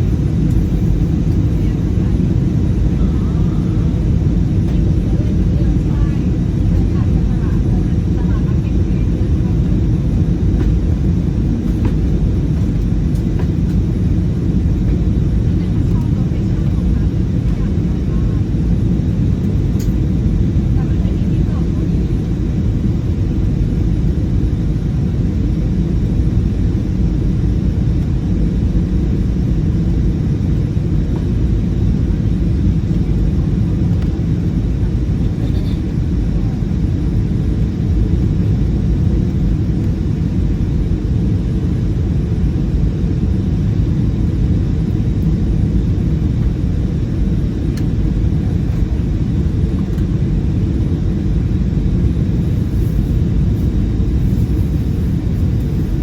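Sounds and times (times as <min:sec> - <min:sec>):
airflow over fuselage: 0:00.0 - 0:56.0
airplane cabin rumble: 0:00.0 - 0:56.0
jet engines: 0:00.0 - 0:56.0.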